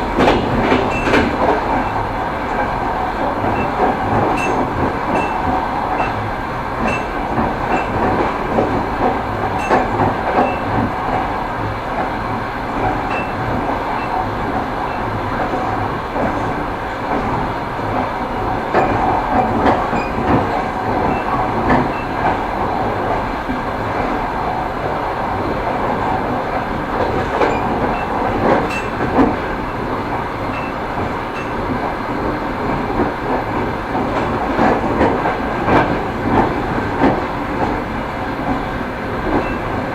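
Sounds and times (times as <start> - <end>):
train wheels clattering over joints: 0.0 - 39.9.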